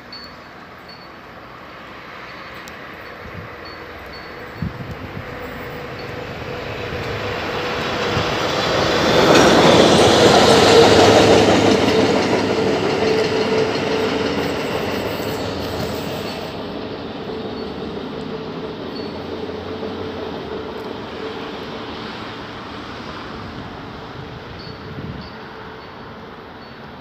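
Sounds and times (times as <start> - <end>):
diesel locomotive passing: 0.0 - 27.0.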